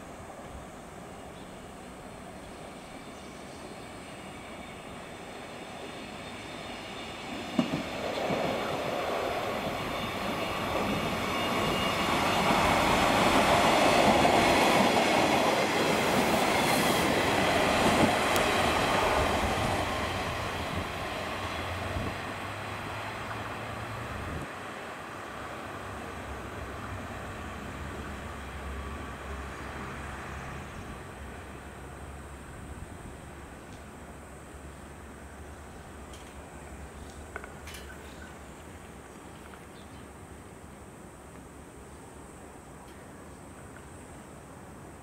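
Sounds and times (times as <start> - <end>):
diesel train passing: 0.0 - 39.2.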